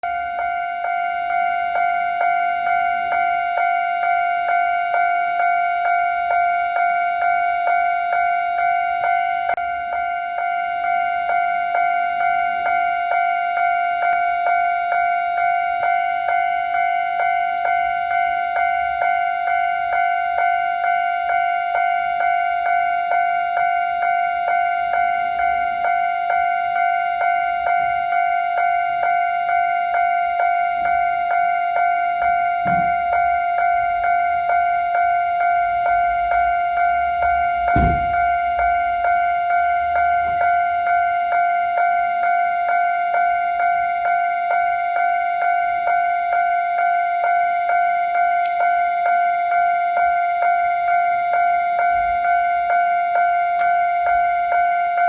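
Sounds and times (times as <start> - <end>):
level crossing warning bell ringing: 0.0 - 55.0.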